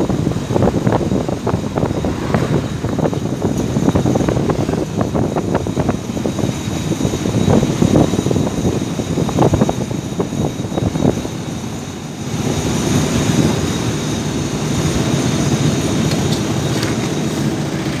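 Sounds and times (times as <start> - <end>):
diesel locomotive engine rumble: 0.0 - 18.0.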